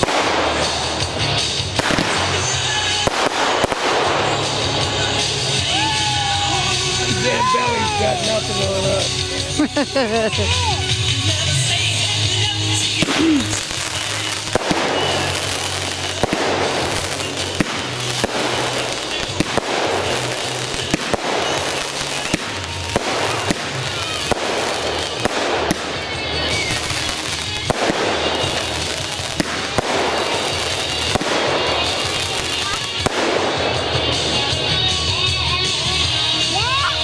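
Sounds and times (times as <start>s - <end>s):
fireworks bangs: 0.0s - 36.8s
fireworks crackling: 0.0s - 37.0s.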